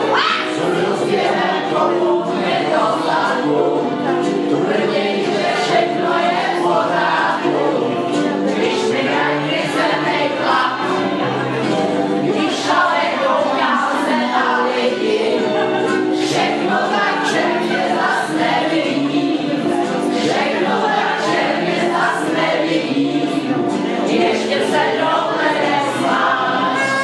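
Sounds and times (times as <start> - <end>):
women singing together: 0.0 - 27.0.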